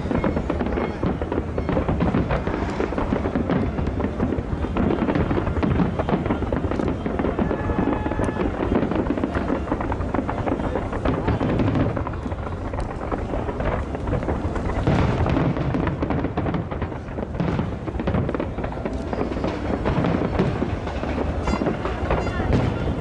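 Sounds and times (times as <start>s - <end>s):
fireworks booming and crackling: 0.0s - 23.0s.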